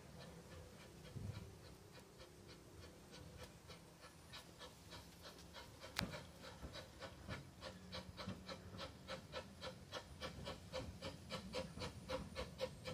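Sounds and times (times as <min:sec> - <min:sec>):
steam locomotive exhaust beats: 0:00.0 - 0:12.9.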